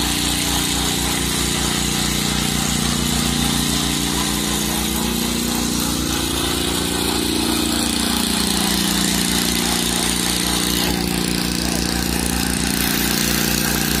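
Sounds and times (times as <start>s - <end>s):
slab vibrator engine throbbing: 0.0s - 14.0s.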